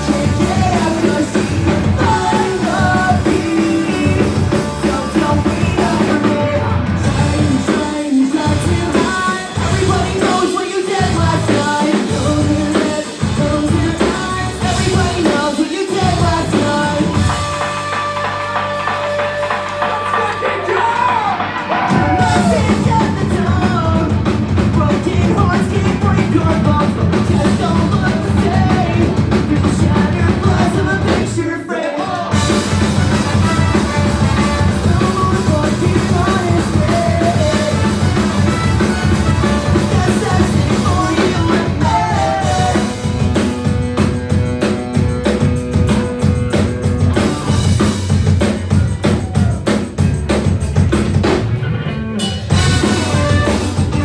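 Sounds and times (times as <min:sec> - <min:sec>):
person singing: 0:00.0 - 0:44.2
live band playing: 0:00.0 - 0:54.0.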